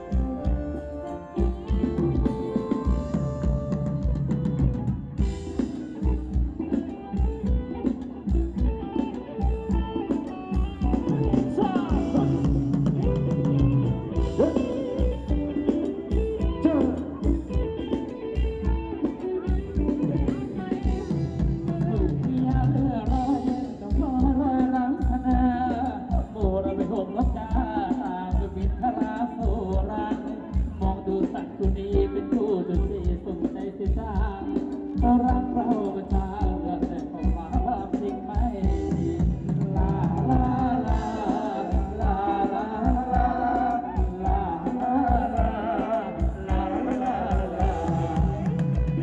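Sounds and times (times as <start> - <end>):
bass drum beat: 0.0 - 32.2, 32.8 - 35.5, 36.1 - 49.0
person singing a melody: 0.0 - 49.0.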